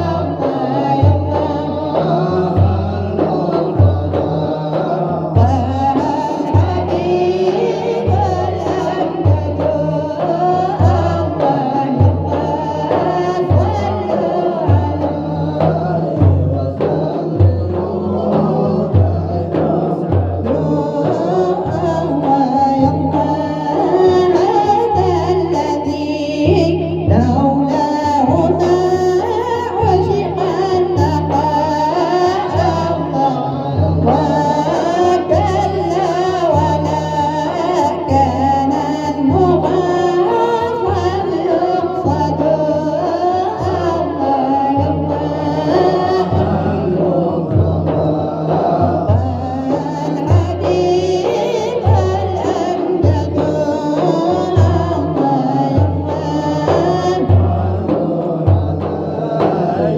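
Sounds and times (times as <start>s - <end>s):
person singing devotional song: 0.0s - 59.9s.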